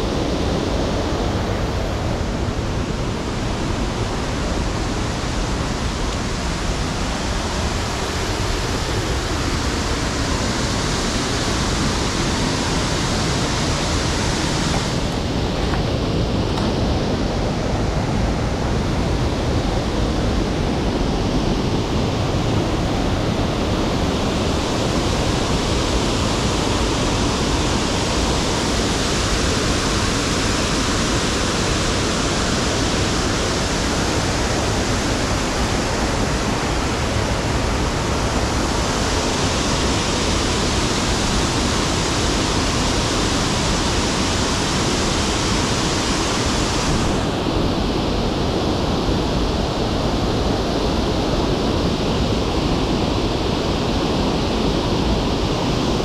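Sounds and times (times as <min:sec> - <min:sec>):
waterfall rushing: 0:00.0 - 0:18.7, 0:22.0 - 0:48.4.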